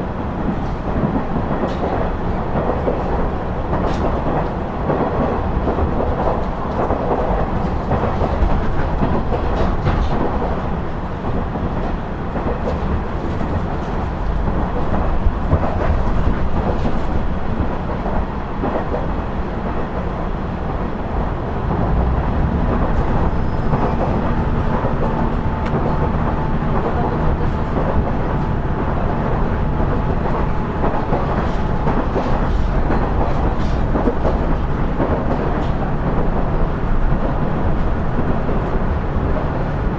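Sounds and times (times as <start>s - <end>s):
wheel and rail rumble: 0.0s - 39.9s.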